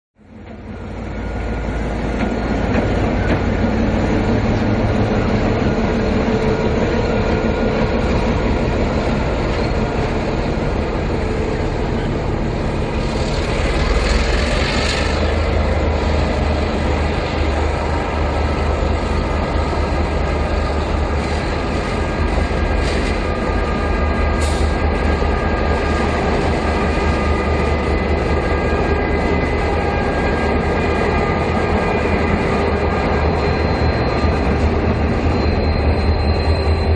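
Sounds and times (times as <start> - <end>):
diesel locomotives passing: 0.2 - 36.9.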